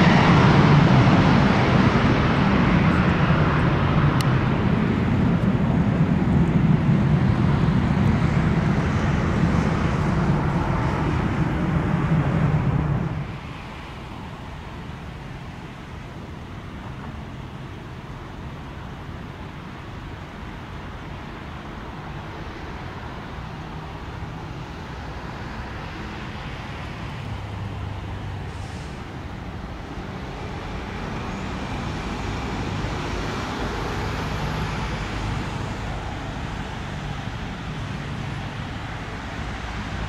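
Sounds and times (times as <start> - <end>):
jet airliner engine rushing: 0.0 - 40.0.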